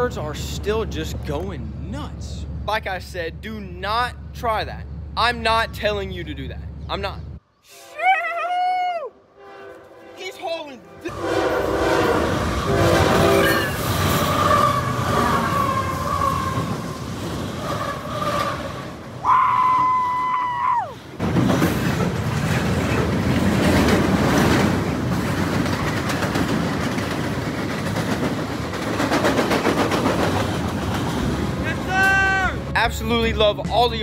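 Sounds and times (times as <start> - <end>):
diesel locomotive passing: 0.0 - 7.4, 9.3 - 34.0
freight cars rumbling over bridge: 0.0 - 7.4, 10.9 - 34.0.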